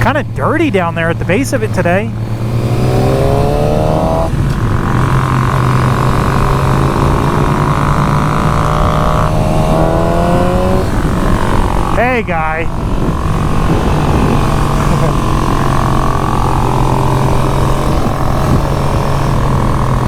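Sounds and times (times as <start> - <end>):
motorcycle engine revving hard: 0.0 - 20.0.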